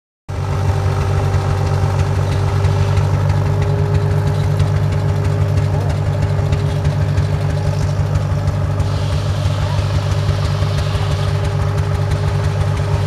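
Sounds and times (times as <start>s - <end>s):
tractor engine idling: 0.3s - 13.0s.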